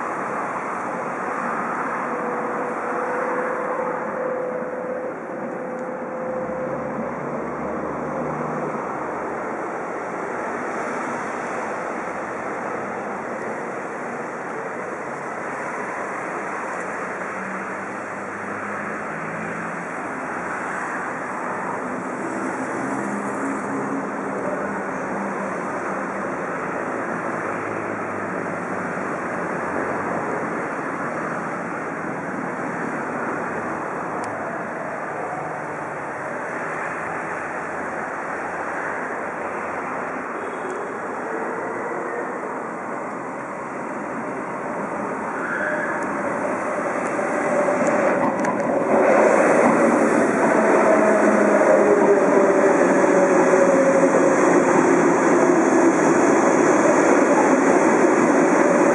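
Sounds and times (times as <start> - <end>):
distant electric train running: 0.0 - 58.9.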